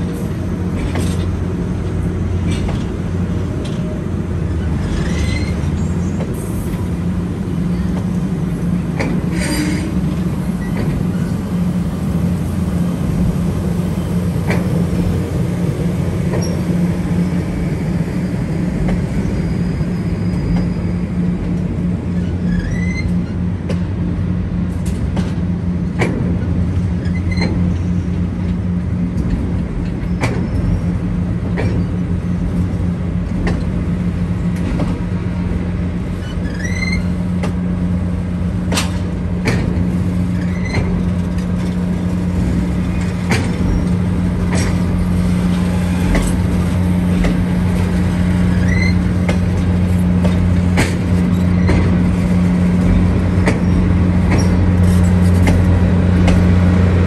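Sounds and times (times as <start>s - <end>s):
locomotive low drone: 0.0s - 57.0s
train wheels clicking over rail joints: 0.0s - 57.0s.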